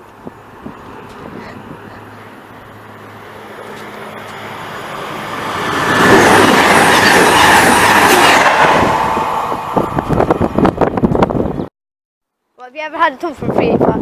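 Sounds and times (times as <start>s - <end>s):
train passing at speed: 0.0s - 11.6s.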